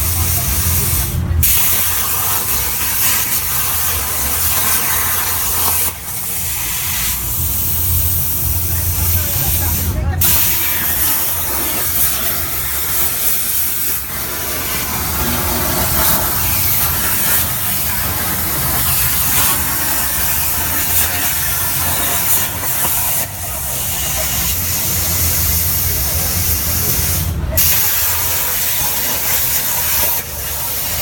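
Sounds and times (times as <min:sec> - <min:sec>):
plasma cutter hissing: 0:00.0 - 0:31.0.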